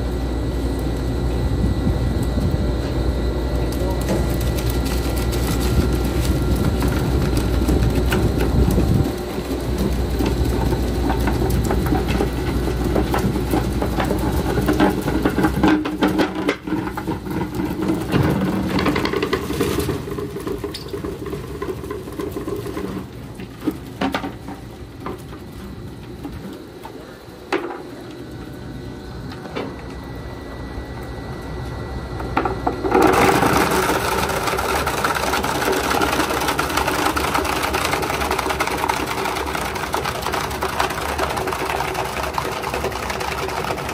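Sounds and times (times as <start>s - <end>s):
wood grinder drone: 0.9s - 24.3s, 32.1s - 43.9s.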